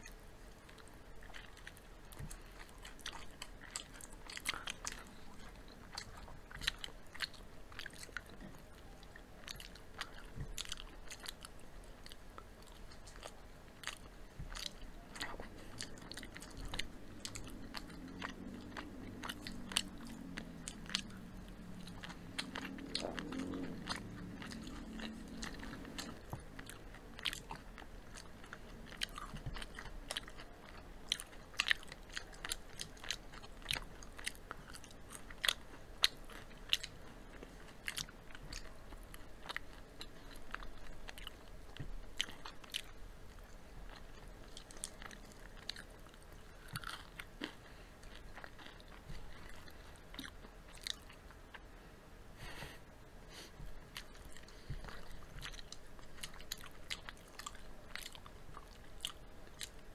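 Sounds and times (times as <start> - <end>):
chewing crispy fried chicken: 0.0 - 51.7, 52.4 - 59.9.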